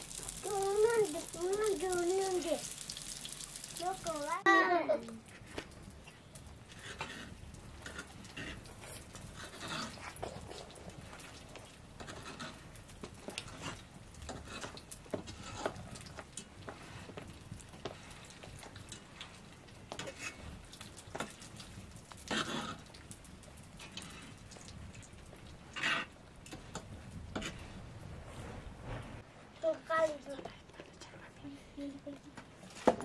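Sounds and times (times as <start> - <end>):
small clicks and crackles: 0.0 - 27.7.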